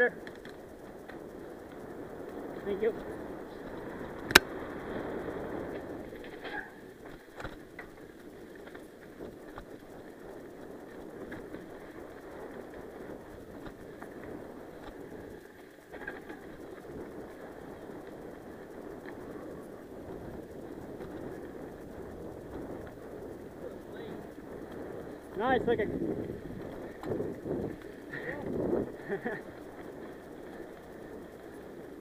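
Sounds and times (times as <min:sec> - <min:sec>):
bike tyres rumbling on dirt: 0:00.0 - 0:32.0
bike knocks and rattles: 0:05.6 - 0:32.0.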